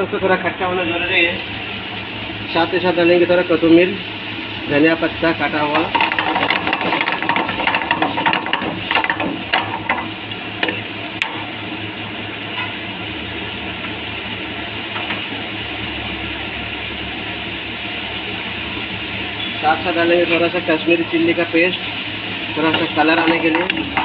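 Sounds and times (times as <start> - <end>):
kitchen hiss and hum: 0.0 - 24.0.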